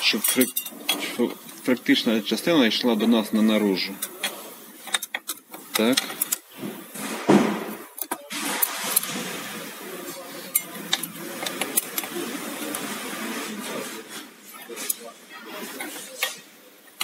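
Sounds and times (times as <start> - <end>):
steady rustling hiss: 0.0 - 17.0.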